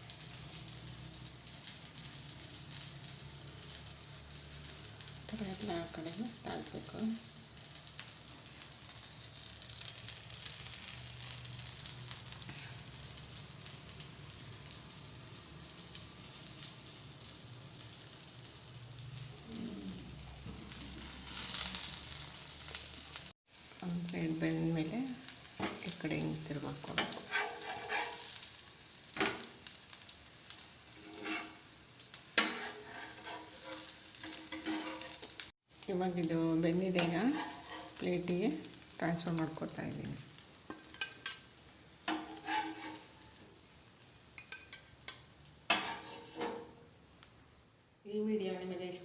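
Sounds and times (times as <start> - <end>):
cutlets sizzling in hot oil: 0.0 - 47.8.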